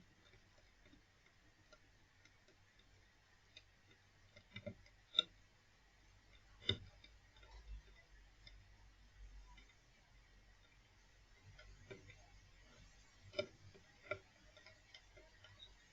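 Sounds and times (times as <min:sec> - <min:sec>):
faint clicks and knocks: 0:00.0 - 0:15.9.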